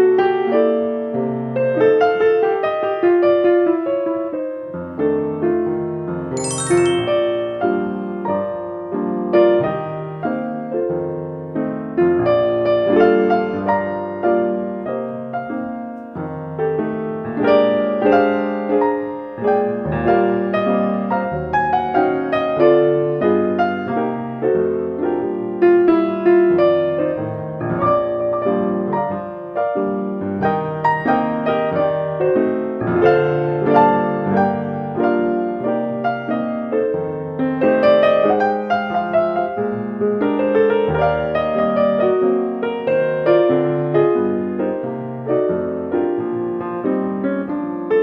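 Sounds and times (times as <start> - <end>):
solo piano music: 0.0 - 48.0.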